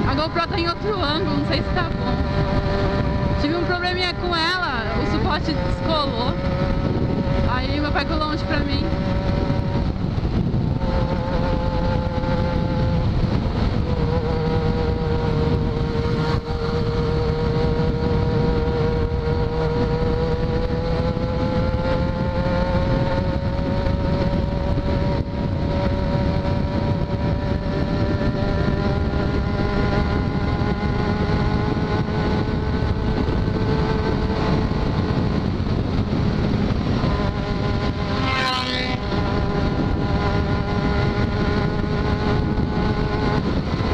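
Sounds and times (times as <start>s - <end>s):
motorcycle engine cruising: 0.0s - 43.9s
wind and road noise: 0.0s - 43.9s.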